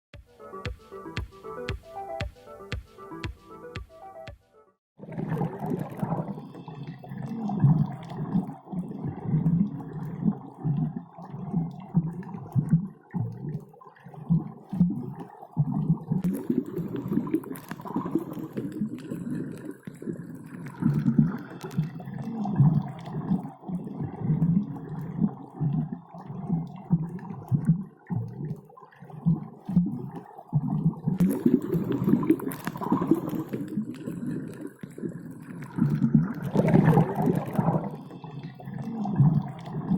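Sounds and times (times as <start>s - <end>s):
underwater bubbling and gurgling: 5.0s - 39.9s.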